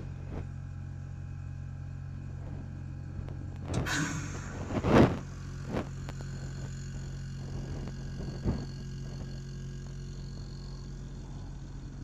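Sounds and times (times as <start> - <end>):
faint high whine: 0.0 - 12.0
heat pump hum: 0.0 - 12.0.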